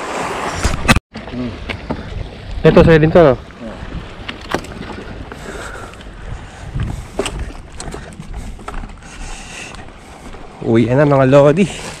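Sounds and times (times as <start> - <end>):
wind rumbling on microphone: 0.4 - 11.1.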